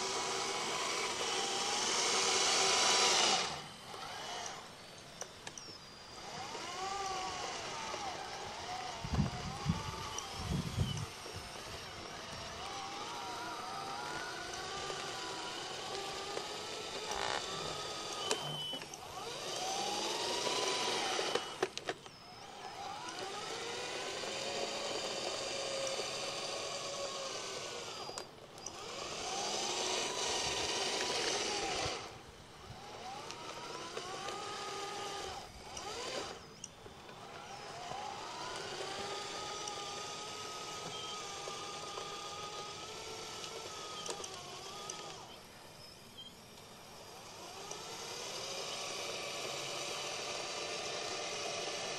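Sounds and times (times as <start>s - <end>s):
electric motors whining: 0.0s - 51.9s.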